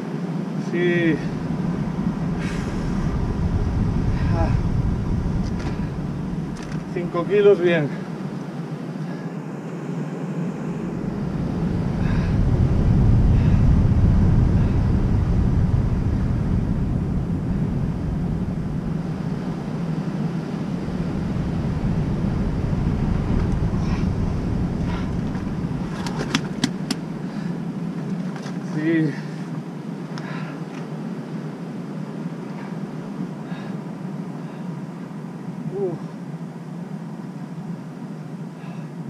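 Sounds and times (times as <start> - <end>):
wind rumbling on microphone: 0.0 - 38.1.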